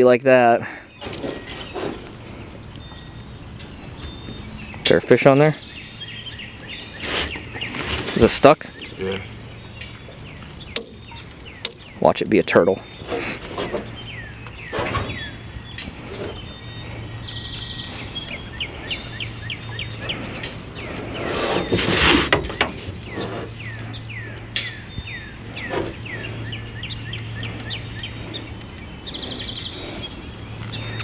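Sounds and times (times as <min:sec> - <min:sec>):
birds singing: 0:00.0 - 0:31.0
steady low hum: 0:00.7 - 0:31.0.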